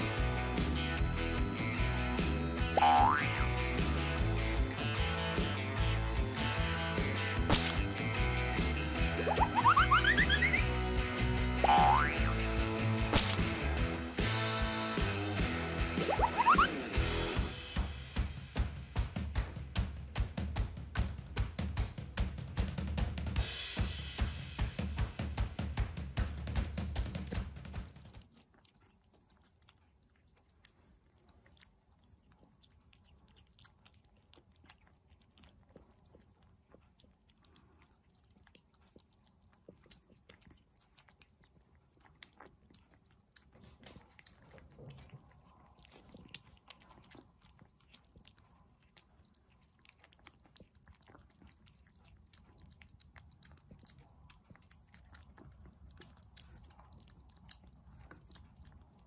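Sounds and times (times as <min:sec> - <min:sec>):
kittens chewing wet food: 0:00.0 - 0:59.0.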